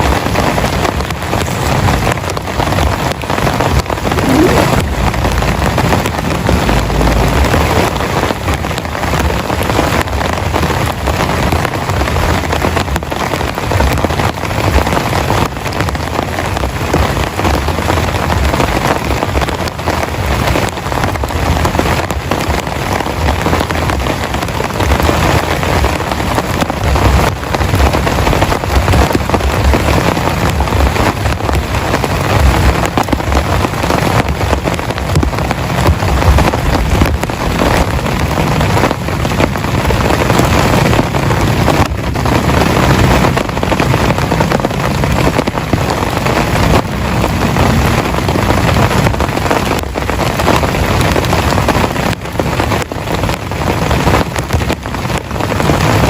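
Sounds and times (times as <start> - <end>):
heavy rain pouring: 0.0 - 56.0
low rumble: 0.1 - 51.6.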